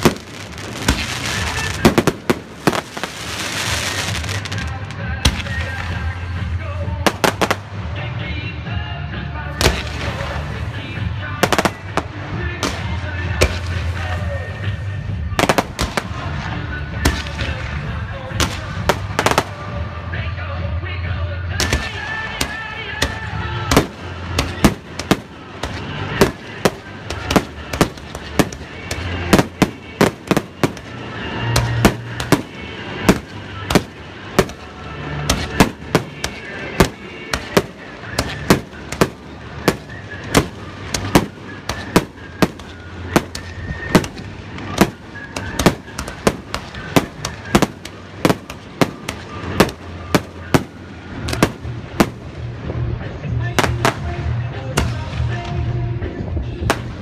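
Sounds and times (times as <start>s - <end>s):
fireworks bursting with sharp bangs: 0.0s - 20.7s, 21.4s - 57.0s.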